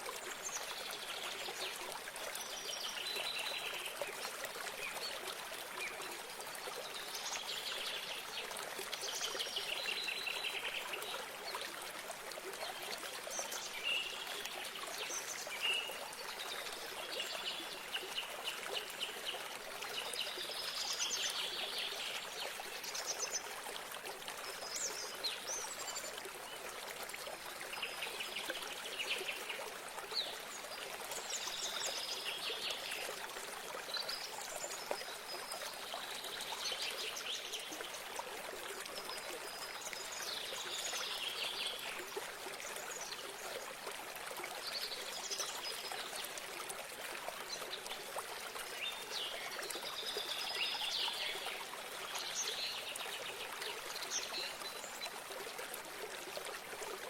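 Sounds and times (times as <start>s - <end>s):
water trickling and pouring: 0.0s - 57.0s.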